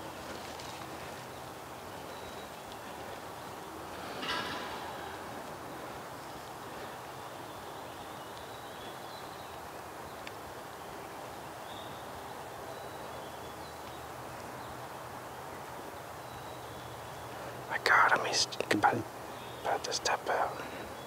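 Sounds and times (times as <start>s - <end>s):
outdoor background noise: 0.0s - 21.0s
songbird chirps: 0.0s - 21.0s.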